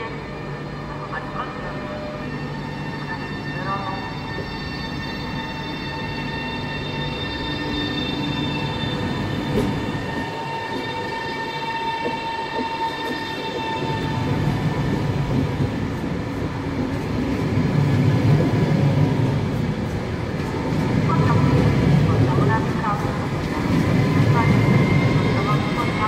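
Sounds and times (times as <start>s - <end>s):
electric train whine: 0.0s - 26.0s
train rumble: 0.0s - 26.0s.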